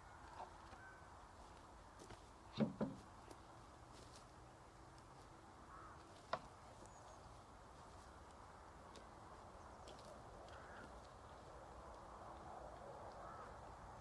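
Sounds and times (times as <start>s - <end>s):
faint distant bird calls: 0.0s - 14.0s.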